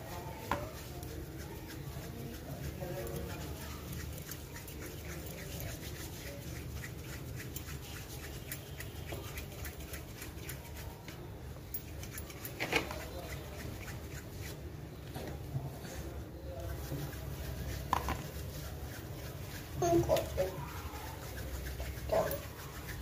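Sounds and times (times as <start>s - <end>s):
hands rubbing dough: 0.0s - 23.0s.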